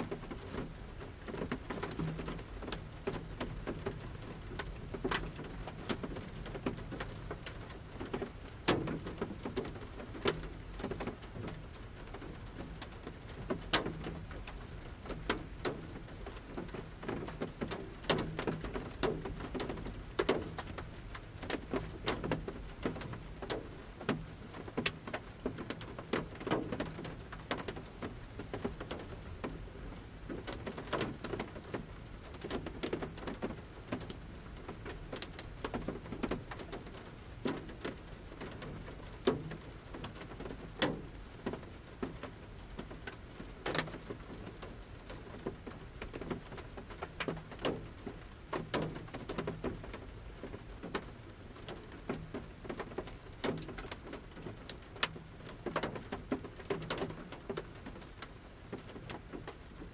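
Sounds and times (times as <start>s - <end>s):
raindrops tapping on a roof: 0.0s - 59.9s
soft steady rain hiss: 0.0s - 59.9s.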